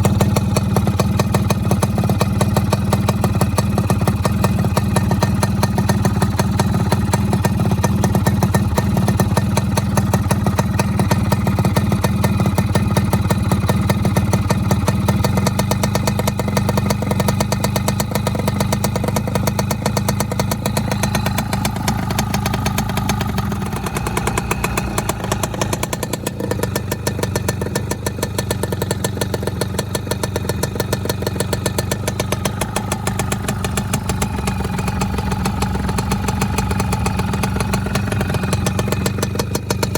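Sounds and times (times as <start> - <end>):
two-stroke engine idling roughly: 0.0 - 39.9.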